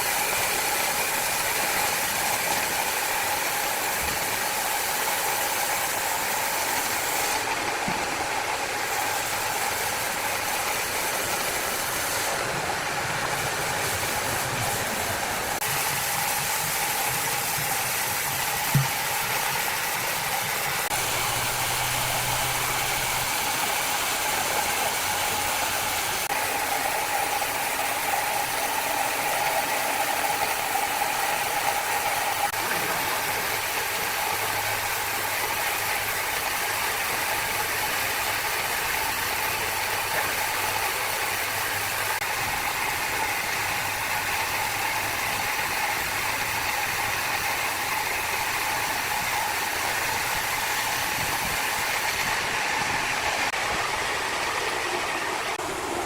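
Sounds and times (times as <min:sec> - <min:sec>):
saw machinery whine: 0:00.0 - 0:56.0.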